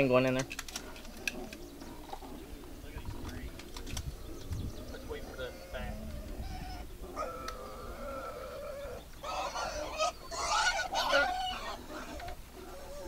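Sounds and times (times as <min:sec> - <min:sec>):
birds honking: 0:00.0 - 0:13.0.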